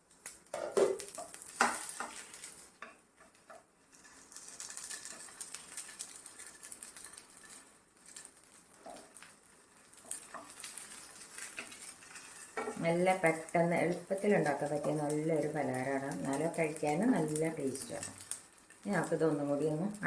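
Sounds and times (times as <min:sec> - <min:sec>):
patties sizzling in a pan: 0:00.0 - 0:20.0.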